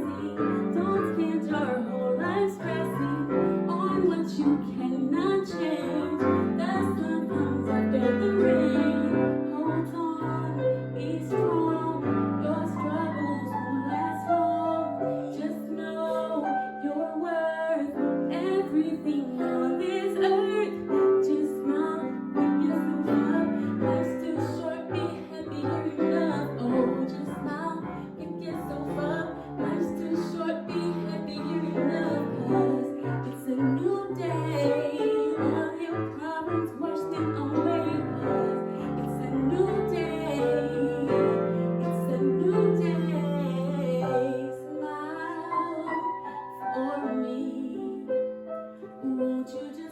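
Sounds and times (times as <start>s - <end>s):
piano: 0.0s - 49.9s
woman singing: 0.0s - 49.9s.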